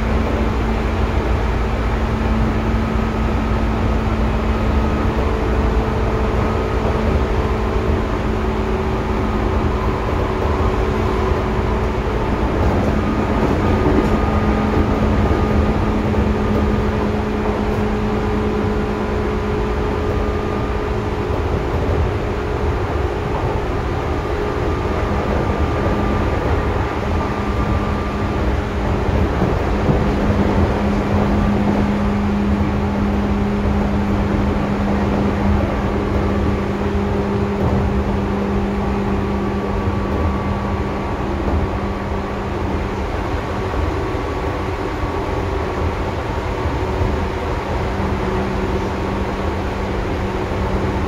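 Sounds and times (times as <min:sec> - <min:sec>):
humming tones from running gear: 0:00.0 - 0:51.0
train wheels rumbling on rail: 0:00.0 - 0:51.0.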